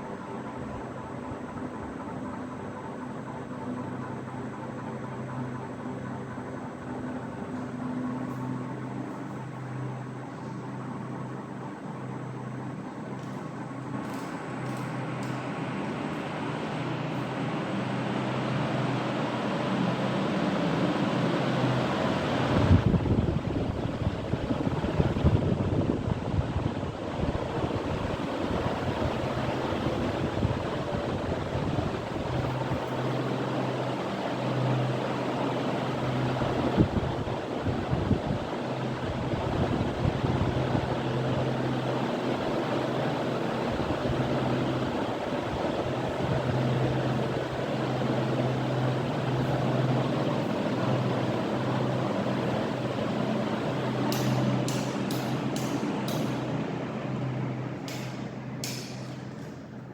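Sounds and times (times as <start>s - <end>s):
ceiling fan air rush: 0.0s - 59.9s.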